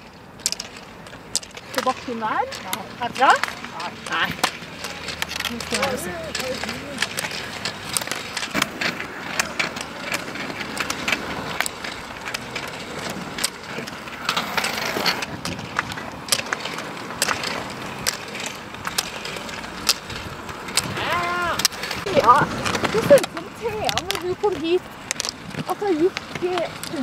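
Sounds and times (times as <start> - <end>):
pole tips clicking on pavement: 0.0 - 27.0
roller skis rolling hiss: 0.0 - 27.0.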